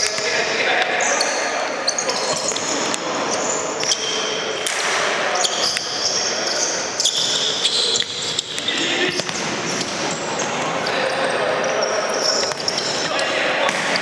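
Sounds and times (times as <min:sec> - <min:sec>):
shoes squeaking on floor: 0:01.0 - 0:04.4, 0:05.3 - 0:13.3.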